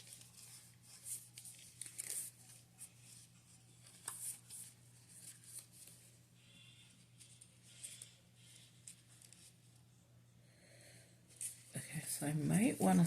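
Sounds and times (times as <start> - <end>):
paper sticker sheets rustling: 0.0 - 9.8, 11.3 - 13.0.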